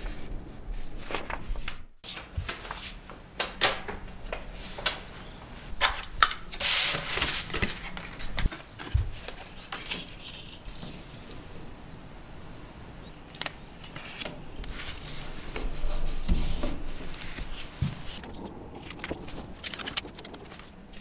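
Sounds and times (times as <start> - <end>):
paper rustling and crinkling: 0.0 - 5.1, 5.7 - 11.2, 13.8 - 21.0.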